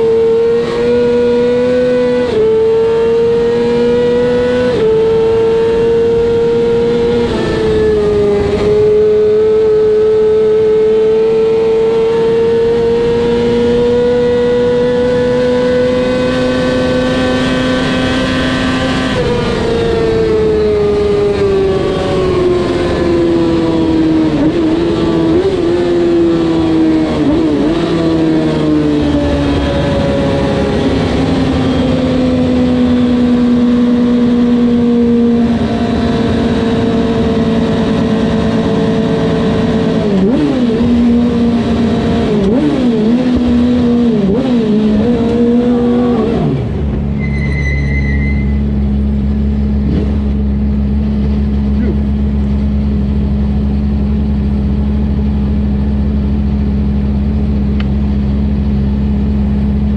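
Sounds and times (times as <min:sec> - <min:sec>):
racing engine at high revs: 0:00.0 - 0:59.9.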